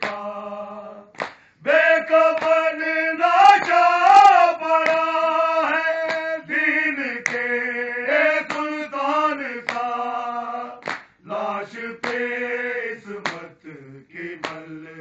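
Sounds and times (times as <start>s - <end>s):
men chanting in long notes: 0.0s - 15.0s.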